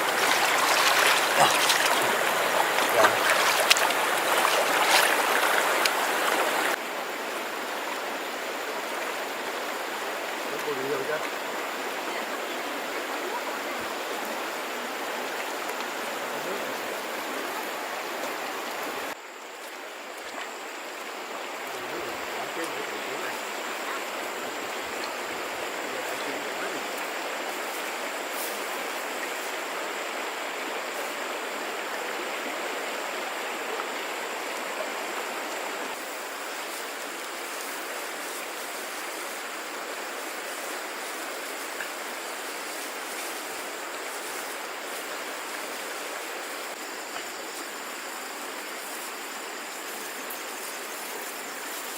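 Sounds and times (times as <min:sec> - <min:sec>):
stream water running: 0:00.0 - 0:51.9.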